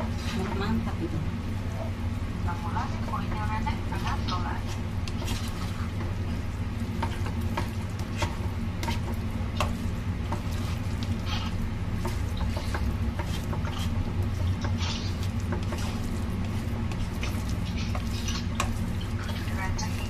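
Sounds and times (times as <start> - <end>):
steady low hum: 0.0 - 20.0
spatula scraping a pan: 3.3 - 20.0.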